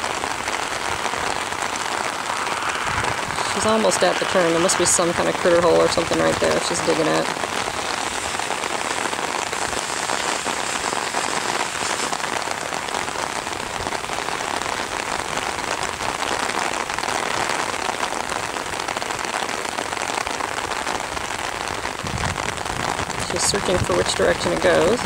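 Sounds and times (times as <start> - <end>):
rain pattering on umbrella: 0.0 - 25.0.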